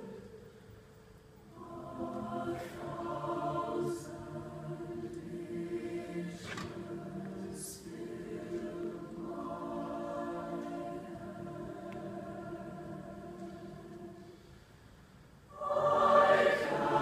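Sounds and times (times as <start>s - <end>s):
choir singing sustained chords: 0.0s - 17.0s.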